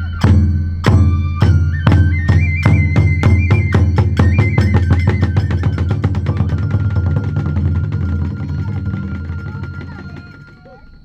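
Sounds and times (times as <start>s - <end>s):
bamboo flute melody: 0.0s - 11.0s
drum strikes: 0.0s - 11.0s
hand cymbal strikes: 0.0s - 11.0s.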